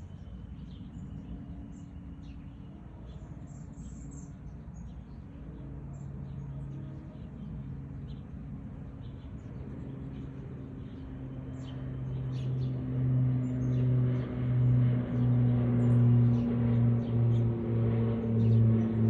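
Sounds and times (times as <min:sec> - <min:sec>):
low motor drone: 0:00.0 - 0:19.0.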